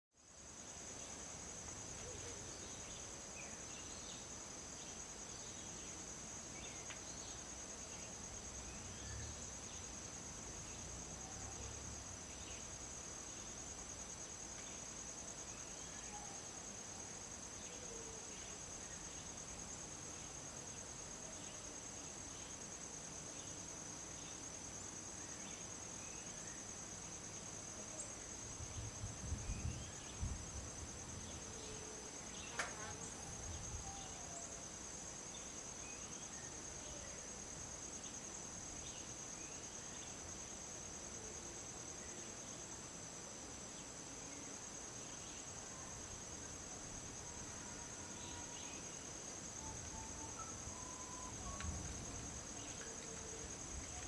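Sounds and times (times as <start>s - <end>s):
insect chorus trilling: 0.3s - 54.0s.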